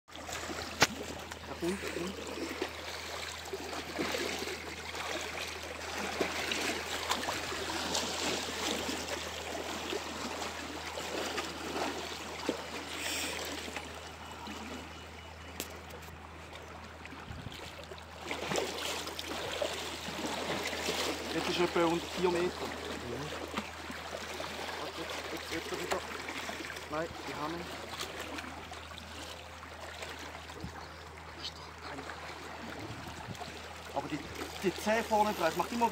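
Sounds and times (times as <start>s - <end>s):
water lapping against boat: 0.1s - 35.9s.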